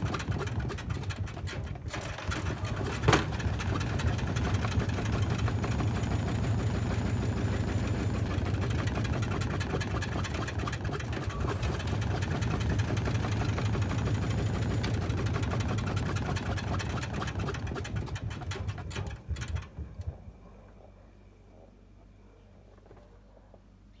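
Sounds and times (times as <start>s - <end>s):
drum rattling and knocking: 0.0s - 20.4s
washing machine motor hum: 0.0s - 22.9s.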